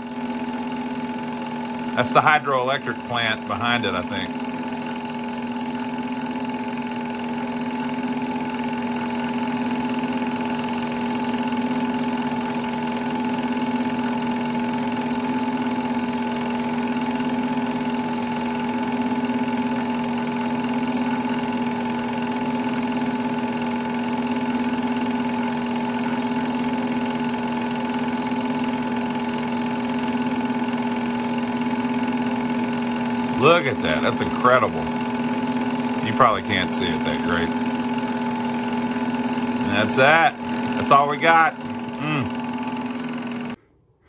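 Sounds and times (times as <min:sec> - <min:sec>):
film projector motor hum: 0:00.0 - 0:43.6.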